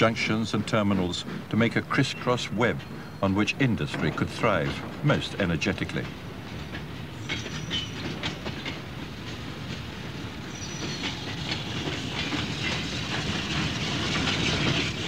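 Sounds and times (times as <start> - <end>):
steam locomotive rolling past: 0.0 - 15.0
wheels clicking over rail joints: 0.0 - 15.0.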